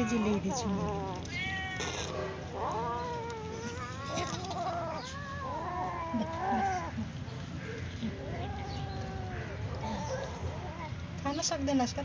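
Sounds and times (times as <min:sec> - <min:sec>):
kittens crying: 0:00.0 - 0:07.1, 0:08.0 - 0:11.0.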